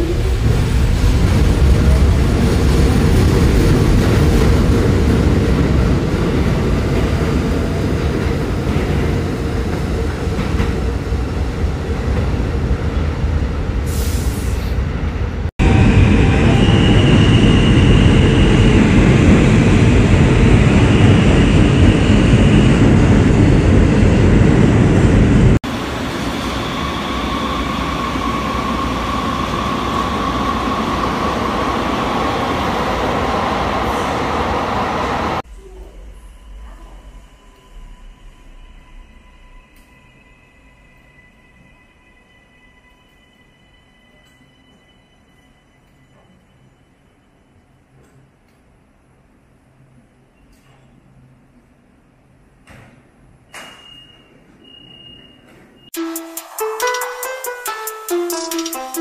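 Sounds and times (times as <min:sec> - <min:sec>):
light-rail train whine: 0:00.0 - 0:59.0
subway train rumble: 0:00.0 - 0:59.0.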